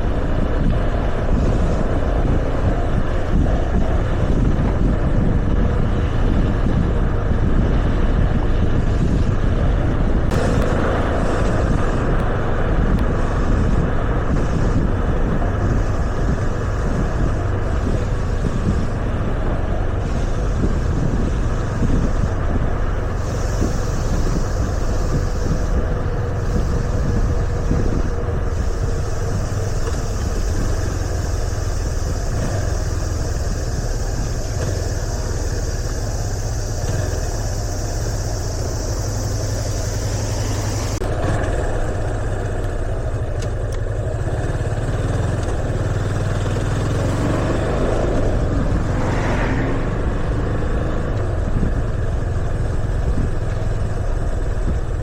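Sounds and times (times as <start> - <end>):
motorcycle engine running: 0.0 - 55.0
road and wind noise: 0.0 - 55.0
steady hiss: 0.0 - 55.0.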